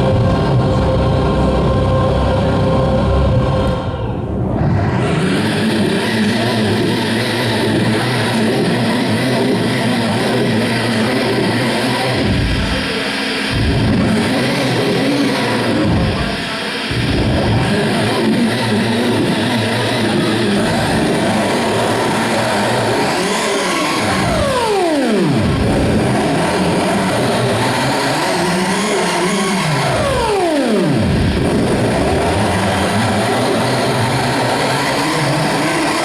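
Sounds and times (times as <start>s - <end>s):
distorted live band: 0.0s - 36.0s
downward pitch sweep: 0.0s - 36.0s.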